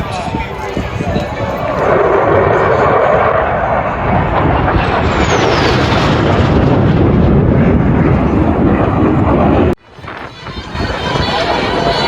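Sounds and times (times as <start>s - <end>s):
fighter jet passing by: 0.8s - 12.0s
high jet whine falling in pitch: 0.8s - 12.0s.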